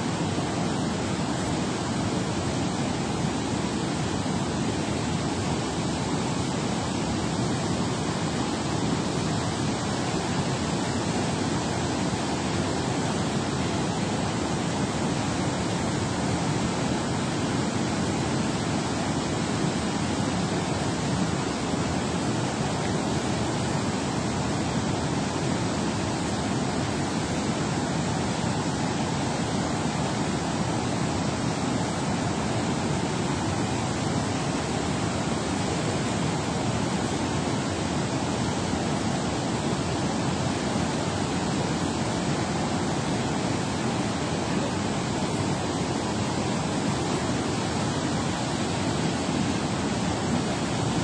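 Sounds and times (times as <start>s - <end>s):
water rushing and churning: 0.0s - 51.0s.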